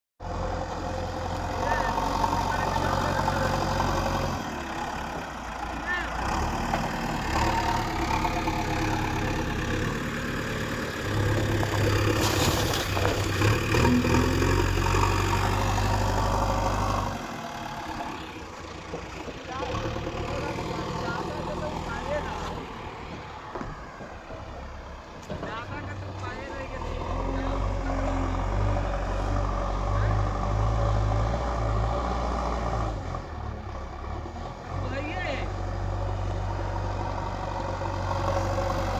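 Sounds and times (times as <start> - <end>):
heavy diesel engine running: 0.2 - 38.9.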